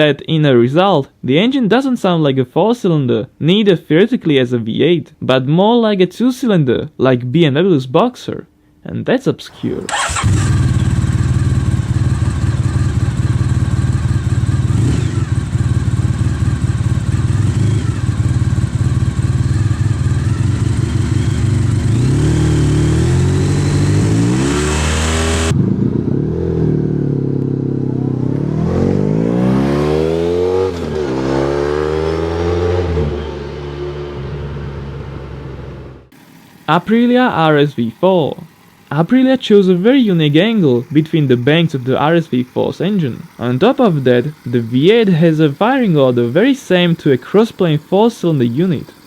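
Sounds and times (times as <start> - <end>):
motorcycle engine revving: 9.5 - 49.0.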